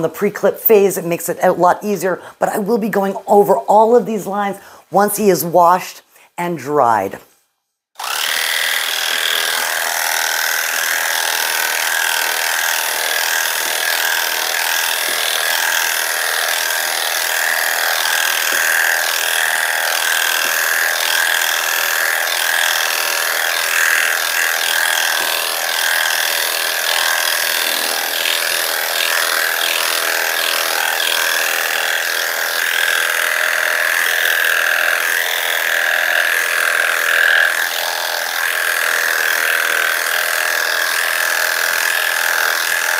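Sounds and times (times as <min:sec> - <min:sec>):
electric dog clippers whining: 0:08.0 - 0:42.9.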